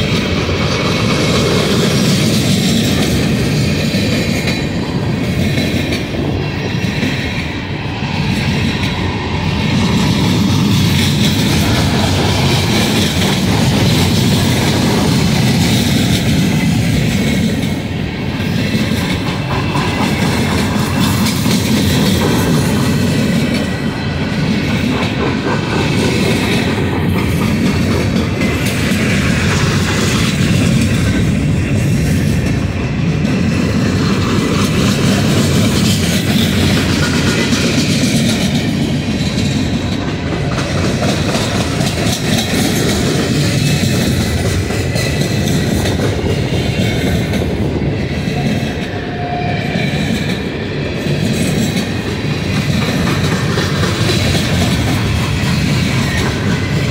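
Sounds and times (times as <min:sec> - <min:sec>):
freight train rumbling: 0:00.0 - 0:56.9
wheels clicking over rail joints: 0:08.4 - 0:49.0, 0:51.0 - 0:56.9.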